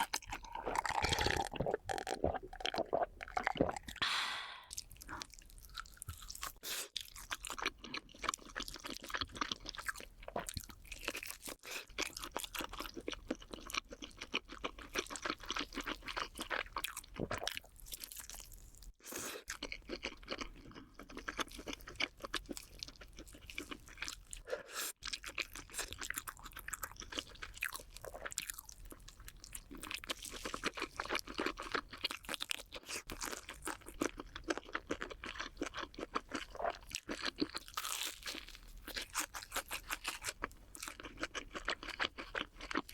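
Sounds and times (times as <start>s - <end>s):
crunching and chewing snacks: 0.0s - 4.0s, 4.8s - 42.9s.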